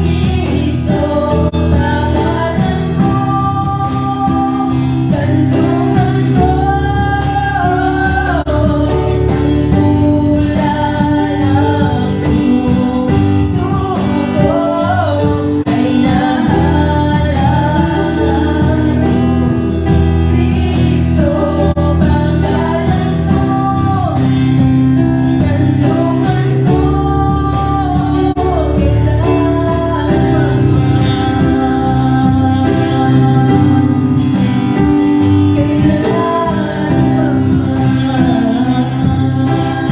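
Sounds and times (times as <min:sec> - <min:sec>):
guitar accompaniment: 0:00.0 - 0:39.9
person singing: 0:00.0 - 0:39.9.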